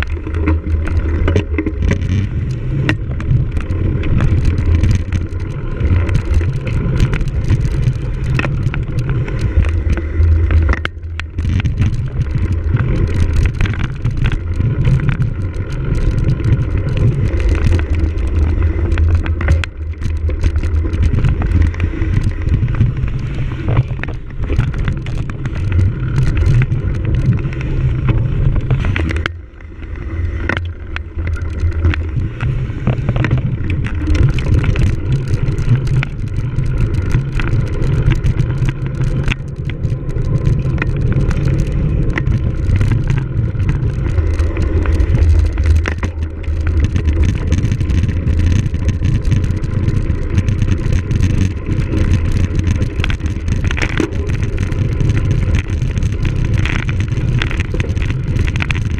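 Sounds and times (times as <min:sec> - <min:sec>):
bike rattling over rough ground: 0:00.0 - 0:58.9.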